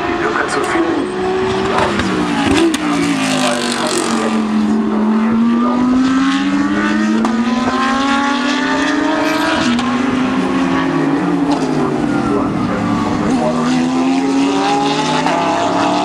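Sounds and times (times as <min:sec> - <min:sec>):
race car engines running hard: 0:00.0 - 0:16.0.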